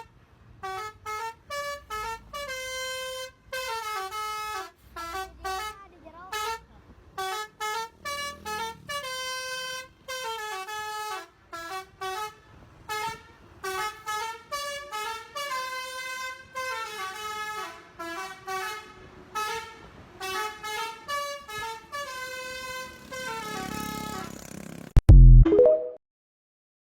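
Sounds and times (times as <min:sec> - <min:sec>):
musical bus horn melody: 0:00.0 - 0:06.6, 0:07.2 - 0:24.3.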